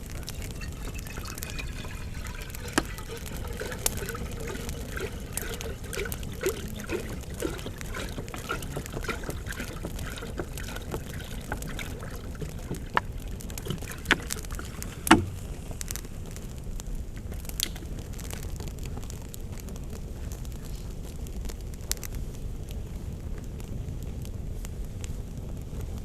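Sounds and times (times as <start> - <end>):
campfire rumbling: 0.0 - 26.0
fire popping and cracking: 0.0 - 26.0.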